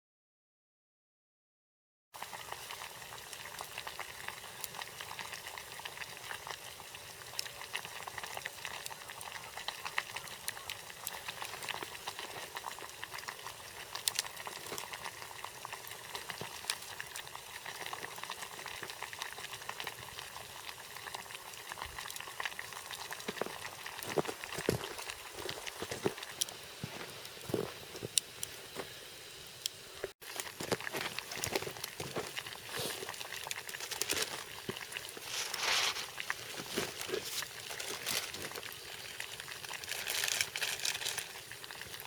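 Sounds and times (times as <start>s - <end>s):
campfire crackling and popping: 2.2s - 42.0s.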